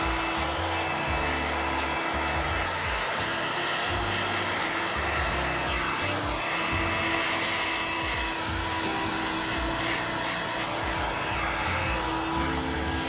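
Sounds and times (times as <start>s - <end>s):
heat gun blowing hot air: 0.0s - 13.0s.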